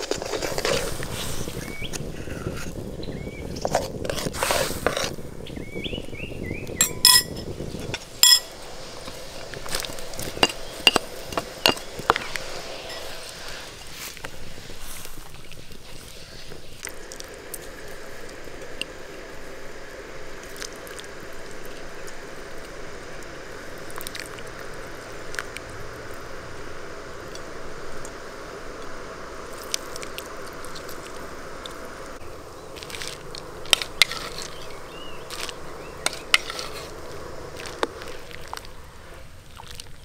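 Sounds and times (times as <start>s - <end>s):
food sizzling in oil: 6.7s - 40.0s.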